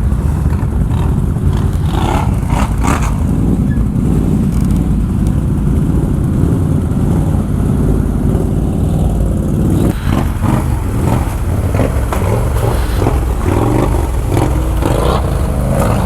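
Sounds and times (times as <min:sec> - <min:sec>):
atv engine under throttle: 0:00.0 - 0:16.0
rough noisy clatter: 0:00.0 - 0:16.0.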